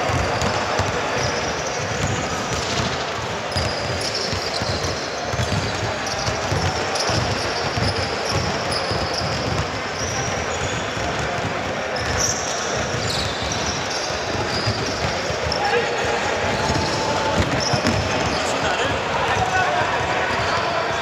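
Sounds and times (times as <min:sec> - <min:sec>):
basketball bouncing on court: 0:00.0 - 0:18.6.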